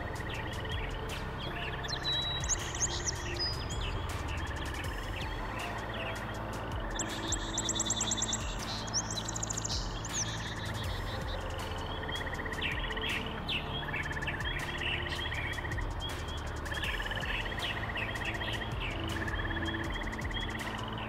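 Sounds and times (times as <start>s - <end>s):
bird trills and chirps: 0.0s - 21.0s
outdoor background noise: 0.0s - 21.0s
rising whistled bird notes: 0.0s - 21.0s.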